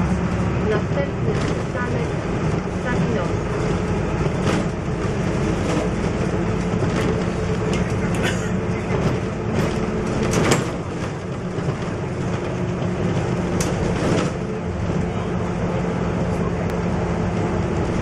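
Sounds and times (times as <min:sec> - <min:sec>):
bus body rattles: 0:00.0 - 0:18.0
bus diesel engine running: 0:00.0 - 0:18.0
road and tyre noise: 0:00.0 - 0:18.0.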